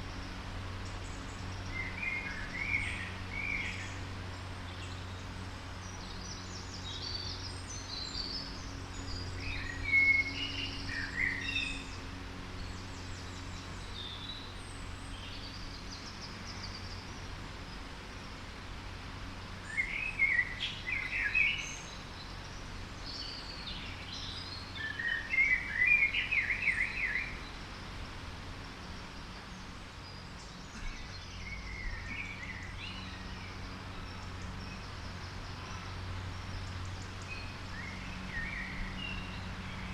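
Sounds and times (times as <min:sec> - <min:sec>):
songbirds singing: 0:00.0 - 0:39.9
steady low hum: 0:00.0 - 0:39.9.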